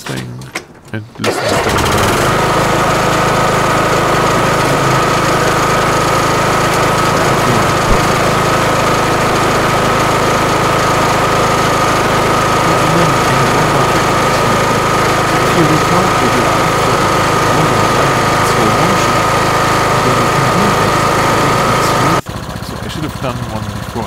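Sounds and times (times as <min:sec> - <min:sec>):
high whine: 0:00.0 - 0:24.0
lawn mower engine running: 0:00.0 - 0:24.0.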